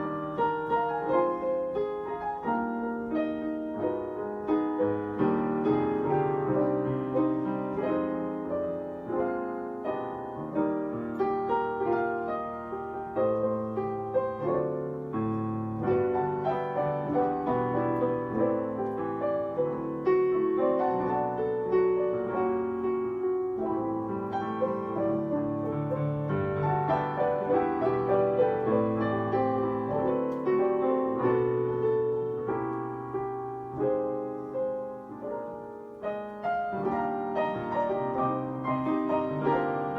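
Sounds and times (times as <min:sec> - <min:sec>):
piano piece: 0:00.0 - 0:39.9.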